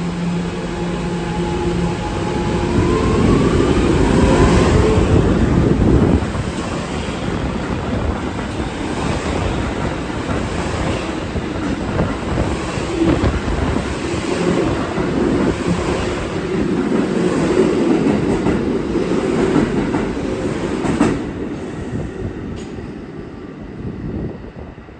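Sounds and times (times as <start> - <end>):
subway train wheels on rails: 0.0 - 24.9.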